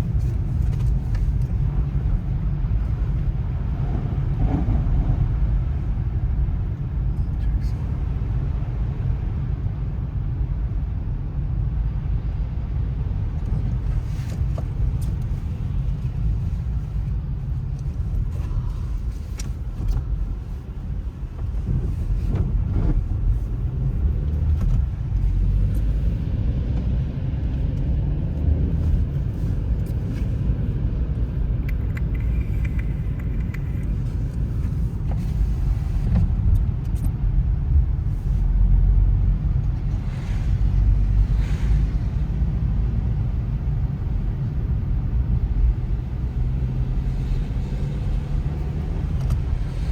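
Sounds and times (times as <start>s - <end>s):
car rumbling: 0.0s - 49.9s.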